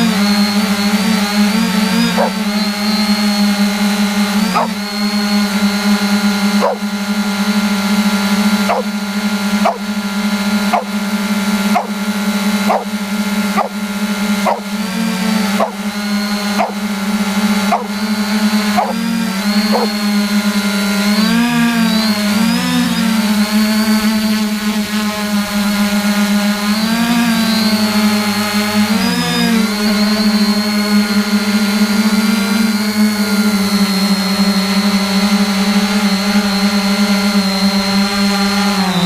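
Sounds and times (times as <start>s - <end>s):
drone motors humming: 0.0s - 39.0s.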